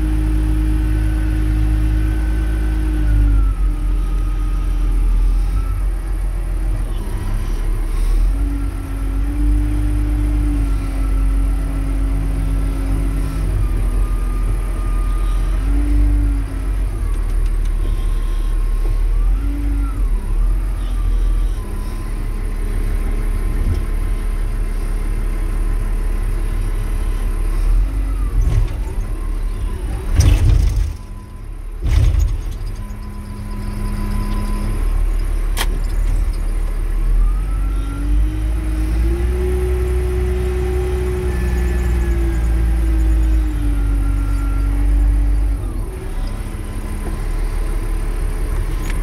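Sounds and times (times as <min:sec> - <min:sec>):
wheel loader diesel engine revving: 0:00.0 - 0:49.0.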